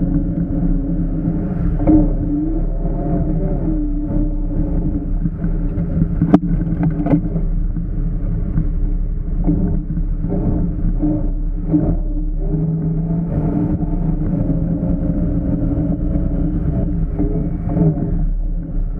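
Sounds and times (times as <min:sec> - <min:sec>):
off-road vehicle engine running: 0:00.0 - 0:18.9.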